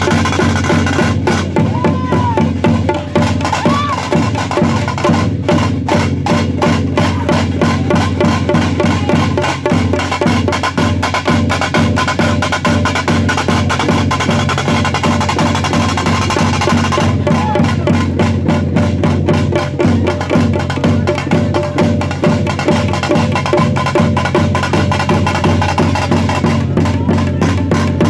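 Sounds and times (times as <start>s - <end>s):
fast dense drumming: 0.0s - 28.0s.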